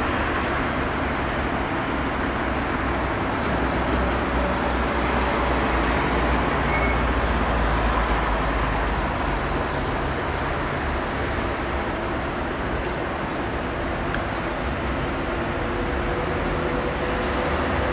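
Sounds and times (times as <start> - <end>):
road traffic passing: 0.0 - 17.9.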